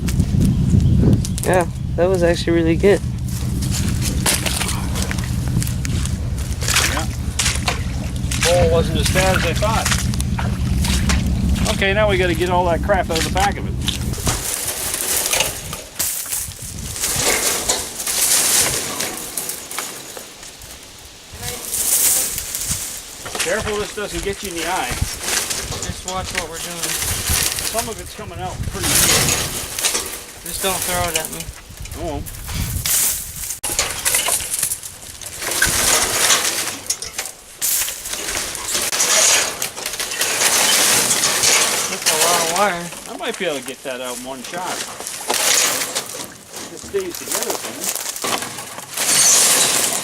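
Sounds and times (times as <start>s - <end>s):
debris rustling and clattering: 0.0s - 50.0s.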